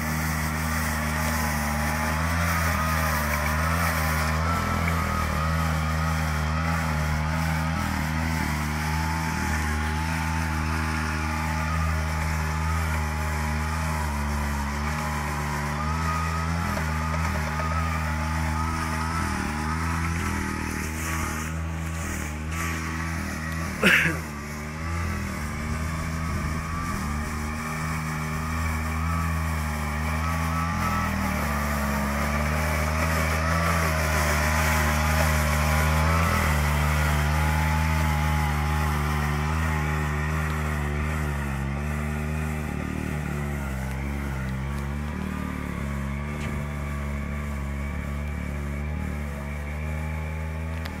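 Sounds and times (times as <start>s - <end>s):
sweeper brush scrubbing paving: 0.0s - 51.0s
tractor engine running: 0.0s - 51.0s.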